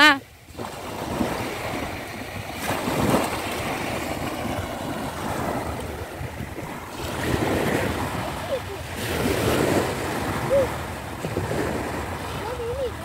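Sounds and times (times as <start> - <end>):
small waves breaking on shore: 0.0 - 13.0
wind on microphone: 0.0 - 13.0.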